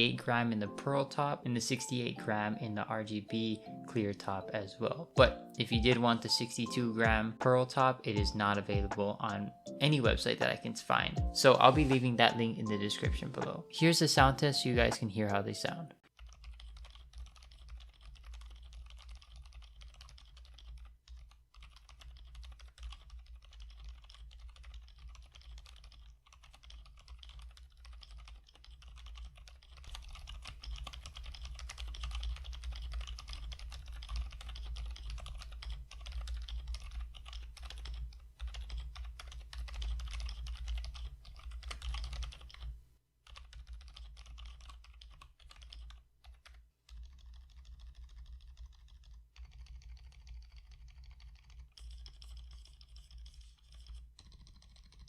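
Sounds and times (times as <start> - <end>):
quiet keyboard typing: 0.0 - 55.0.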